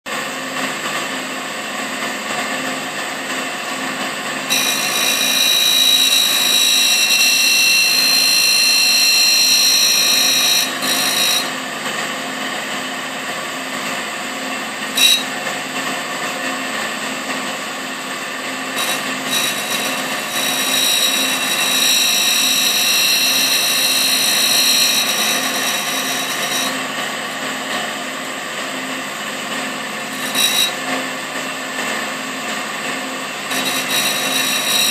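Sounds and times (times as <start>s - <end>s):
grinder motor hum: 0.1s - 34.9s.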